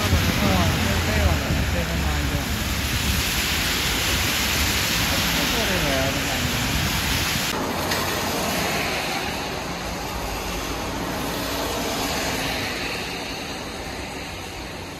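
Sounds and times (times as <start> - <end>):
tyres hissing on wet road: 0.0 - 14.9.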